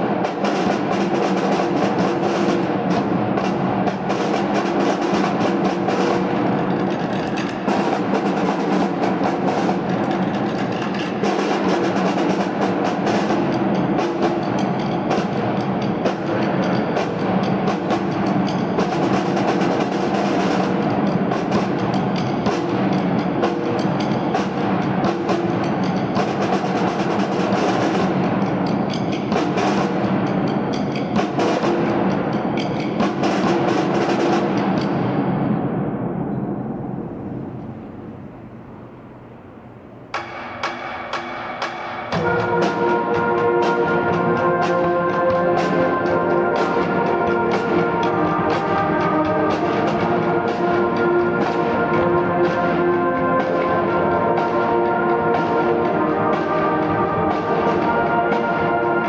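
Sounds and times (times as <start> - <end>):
brass and reed band playing: 0.0 - 32.3, 42.1 - 59.0
snare and bass drums: 0.0 - 35.9, 40.2 - 59.0.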